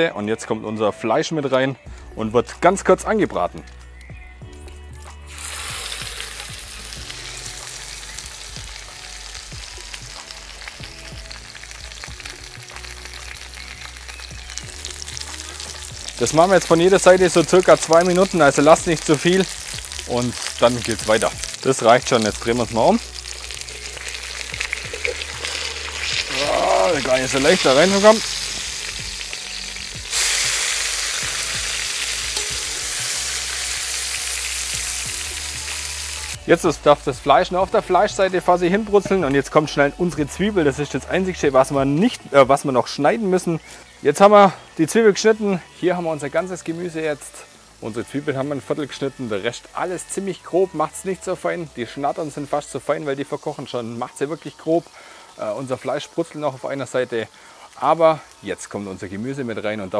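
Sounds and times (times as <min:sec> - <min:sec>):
beef sizzling in hot oil: 0:04.6 - 0:59.9.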